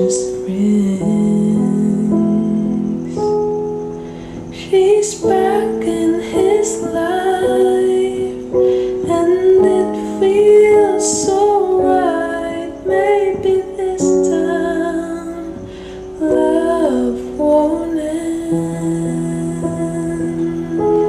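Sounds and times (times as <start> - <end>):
soft instrumental accompaniment: 0.0 - 21.0
woman singing: 0.0 - 21.0.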